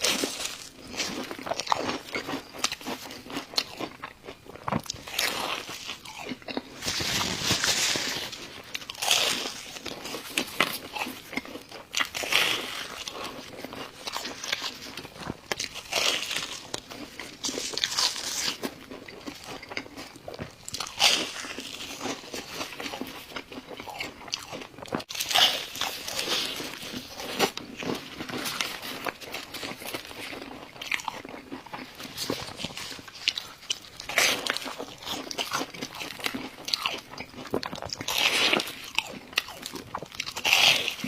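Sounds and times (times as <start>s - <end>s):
person chewing crunchy food: 0.0s - 41.0s.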